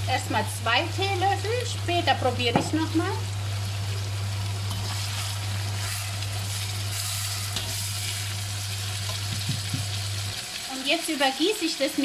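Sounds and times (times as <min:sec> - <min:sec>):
meat and onions sizzling in oil: 0:00.0 - 0:12.0.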